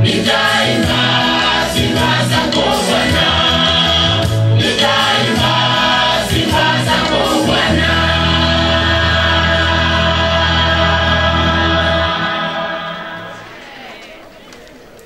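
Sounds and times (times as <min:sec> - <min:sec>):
women's choir singing gospel: 0:00.0 - 0:14.2.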